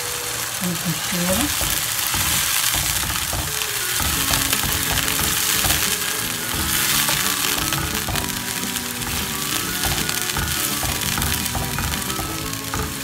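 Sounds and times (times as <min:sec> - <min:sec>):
vegetables sizzling in frying pan: 0:00.0 - 0:13.0
wooden spoon stirring: 0:00.8 - 0:13.0.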